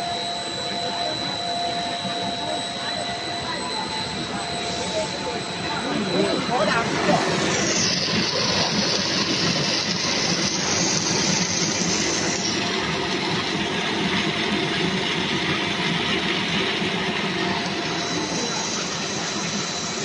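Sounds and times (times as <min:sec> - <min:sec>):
faint machine whines: 0:00.0 - 0:20.0
production line machinery running: 0:00.0 - 0:20.0.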